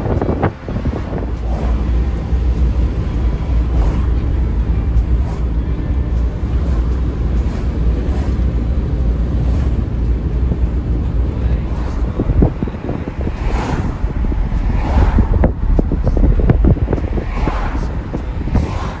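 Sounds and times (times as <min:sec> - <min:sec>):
engine rumble inside van: 0:00.0 - 0:19.0
road noise: 0:00.0 - 0:19.0.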